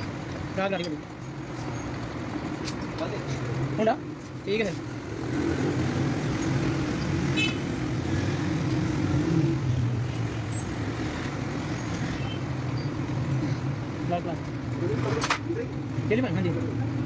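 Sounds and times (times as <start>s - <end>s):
motor traffic rumble: 0.0s - 17.0s.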